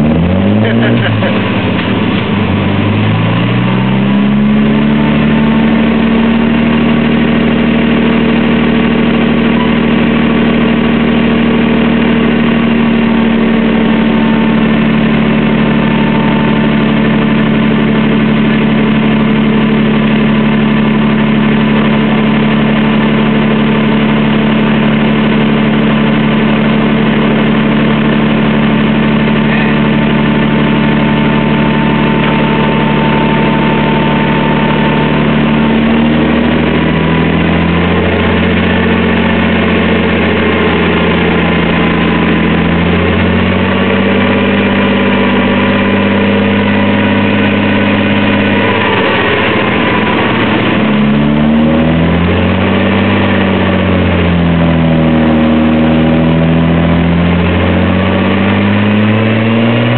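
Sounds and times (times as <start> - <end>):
car engine revving on dyno: 0.0 - 59.9.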